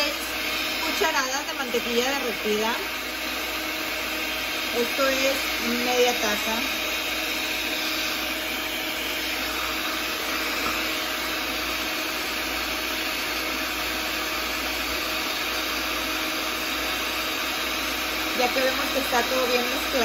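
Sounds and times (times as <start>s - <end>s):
electric mixer whirring: 0.0s - 20.0s.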